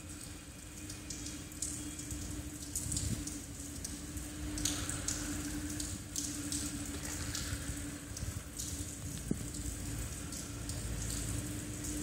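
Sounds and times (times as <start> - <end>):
rain behind glass: 0.0 - 12.0
steady low hum: 0.0 - 12.0.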